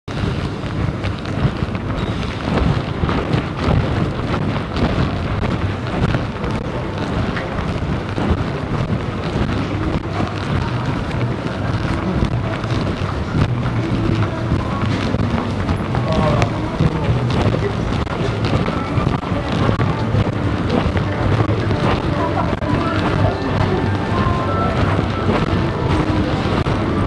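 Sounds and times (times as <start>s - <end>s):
crowd noise: 0.1s - 27.0s
footsteps: 0.1s - 27.0s.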